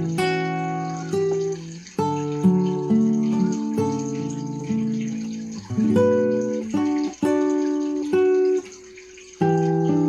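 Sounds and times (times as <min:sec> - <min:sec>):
acoustic guitar melody: 0:00.0 - 0:10.0.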